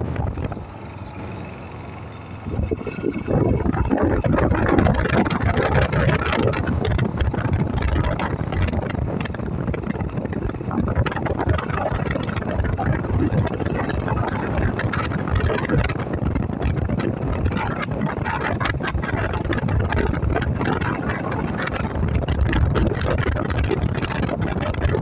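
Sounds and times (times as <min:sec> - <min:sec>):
wind noise on microphone: 0:00.0 - 0:01.0, 0:02.4 - 0:25.0
motorcycle engine running: 0:00.0 - 0:25.0.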